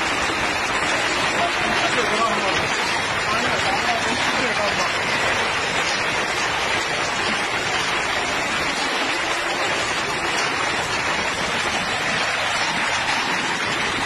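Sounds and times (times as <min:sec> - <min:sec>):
torrential rain: 0:00.0 - 0:14.0.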